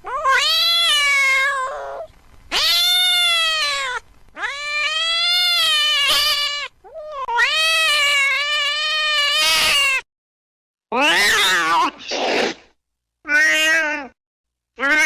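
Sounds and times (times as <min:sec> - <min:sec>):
cat meowing: 0:00.0 - 0:10.0, 0:11.0 - 0:12.1, 0:13.3 - 0:14.2, 0:14.8 - 0:15.0.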